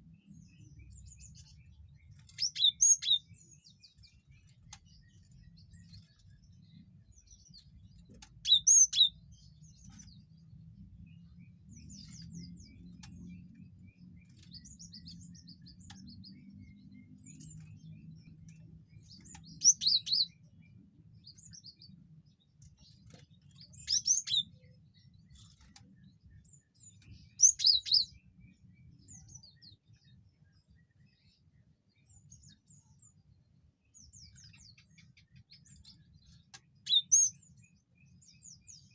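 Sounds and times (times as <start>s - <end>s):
faint bird chirps: 0.0s - 38.9s.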